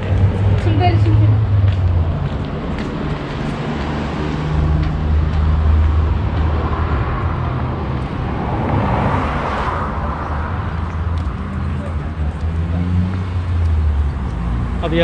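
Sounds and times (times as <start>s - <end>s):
passing vehicle tyre noise: 0.0s - 15.0s
road traffic rumble: 0.0s - 15.0s.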